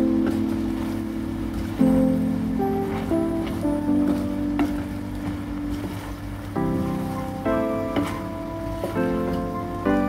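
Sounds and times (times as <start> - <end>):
instrumental held chords: 0.0 - 10.0.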